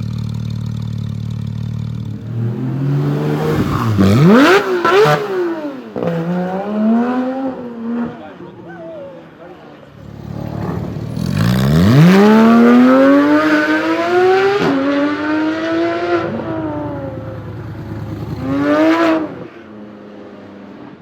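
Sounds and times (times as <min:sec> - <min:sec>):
sports car engine accelerating: 0:00.0 - 0:08.4, 0:10.0 - 0:20.6.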